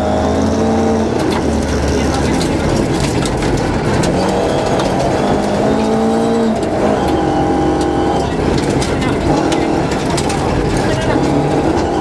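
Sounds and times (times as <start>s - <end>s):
car engine at high revs: 0.0s - 12.0s
road and tyre noise: 0.0s - 12.0s.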